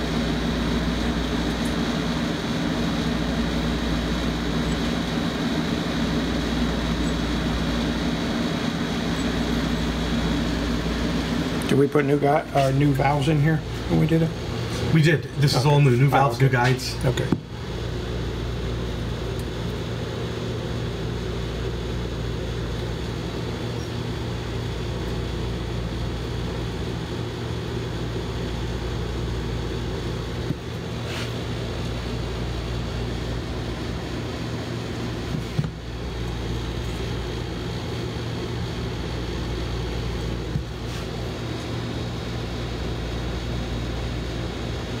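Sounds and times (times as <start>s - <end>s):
machinery humming: 0.0s - 45.0s.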